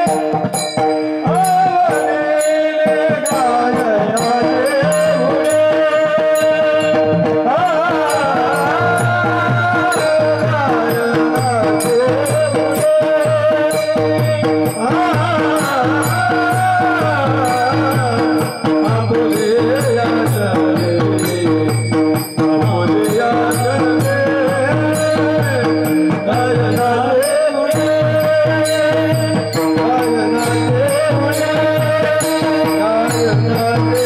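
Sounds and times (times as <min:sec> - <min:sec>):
men singing: 0:00.0 - 0:00.6, 0:01.2 - 0:34.0
harmonium drone: 0:00.0 - 0:34.0
low drum beat: 0:03.0 - 0:34.0.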